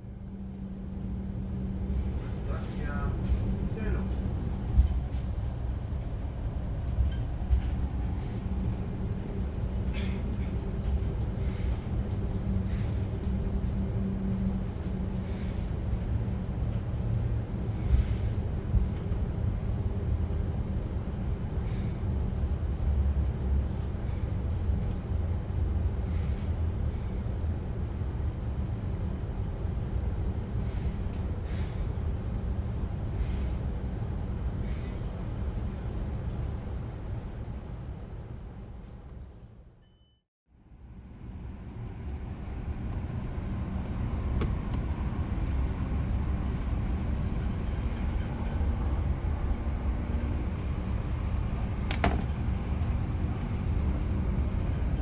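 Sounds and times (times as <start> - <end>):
train rumbling along track: 0.0 - 39.8, 40.8 - 55.0.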